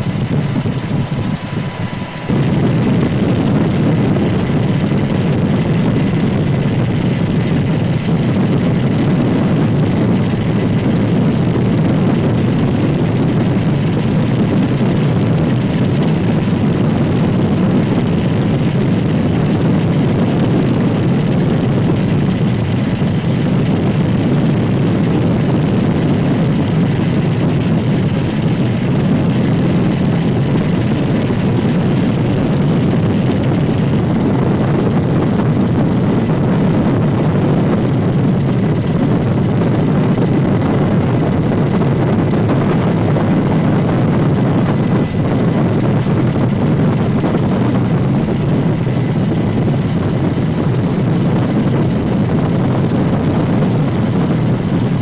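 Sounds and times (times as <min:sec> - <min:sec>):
aircraft engine drone: 0:00.0 - 0:55.0
faint steady whine: 0:00.0 - 0:55.0.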